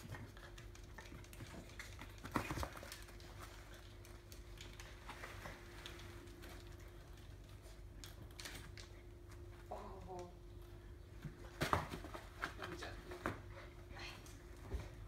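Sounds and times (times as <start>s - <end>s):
dog paws clicking on floor: 0.0s - 15.0s.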